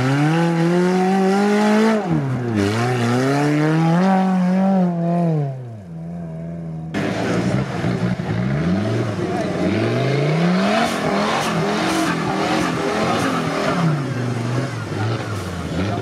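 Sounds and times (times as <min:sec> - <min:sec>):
engine running: 0:00.0 - 0:16.0
off-road engine revving: 0:00.0 - 0:16.0.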